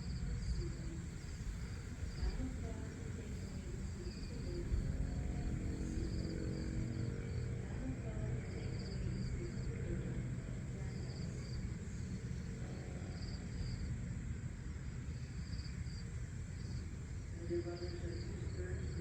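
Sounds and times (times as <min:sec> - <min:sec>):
insect chirping trills: 0:00.0 - 0:19.0
steady low rumble: 0:00.0 - 0:19.0.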